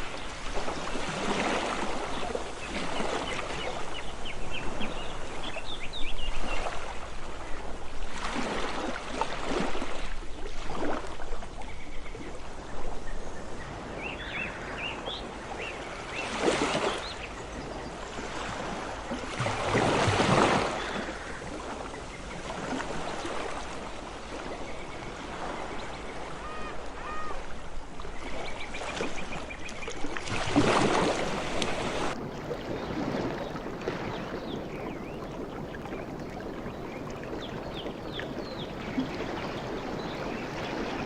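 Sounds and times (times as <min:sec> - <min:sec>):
ocean waves washing ashore: 0:00.0 - 0:41.0.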